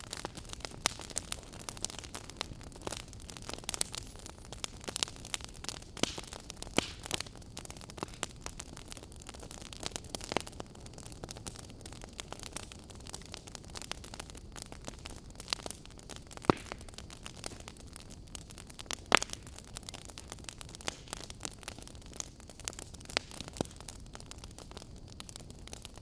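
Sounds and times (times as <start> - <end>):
burning wood crackling: 0.0 - 26.0
flames rumbling: 0.0 - 26.0.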